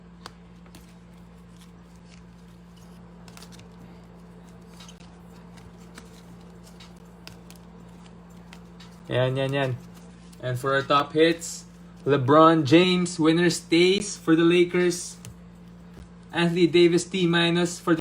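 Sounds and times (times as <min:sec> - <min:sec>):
trading cards clicking and rustling: 0:00.0 - 0:12.4, 0:13.9 - 0:18.0.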